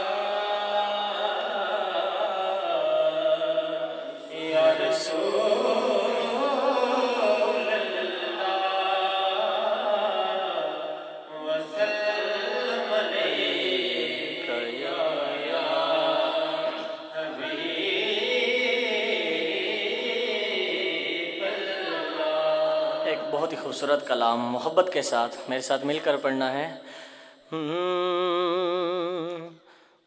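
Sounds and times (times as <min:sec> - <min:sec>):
man chanting into a microphone: 0:00.0 - 0:29.7.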